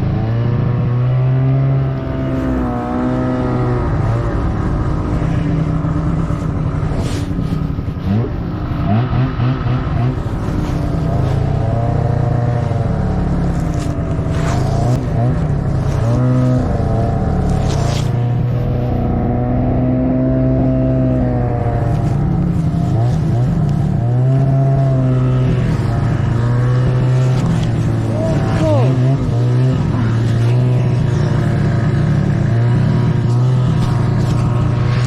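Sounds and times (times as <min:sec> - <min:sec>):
snowmobile engine revving: 0:00.0 - 0:35.0.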